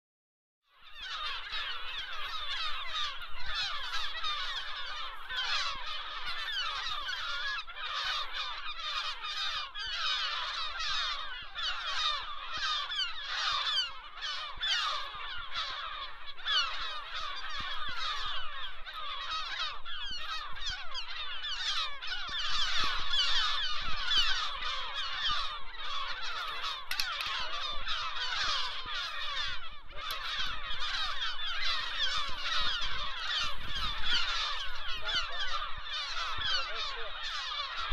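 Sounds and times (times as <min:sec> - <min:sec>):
gulls harsh calling: 0:00.8 - 0:37.9.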